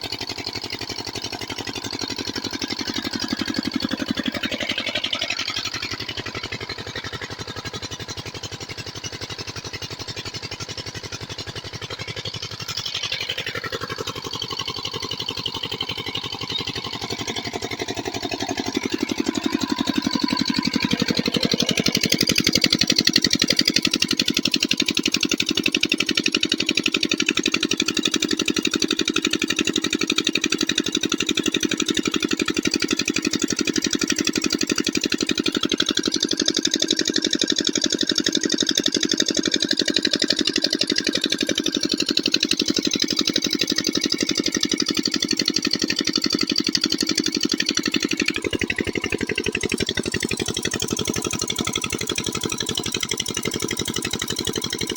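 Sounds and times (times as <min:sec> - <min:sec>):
diesel pump engine chugging: 0:00.0 - 0:54.9.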